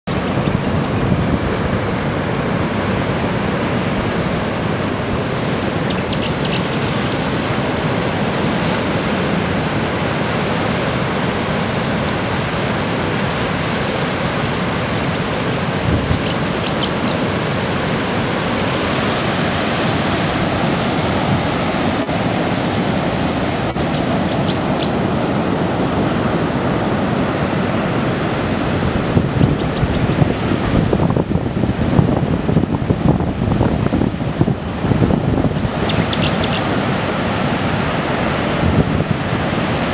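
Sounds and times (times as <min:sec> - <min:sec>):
wind: 0:00.0 - 0:39.9
ocean surf breaking: 0:00.1 - 0:39.9.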